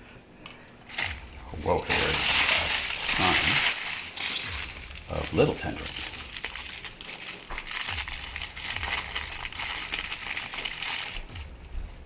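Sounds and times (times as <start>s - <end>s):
packaging crinkling and rustling: 0.8s - 11.6s.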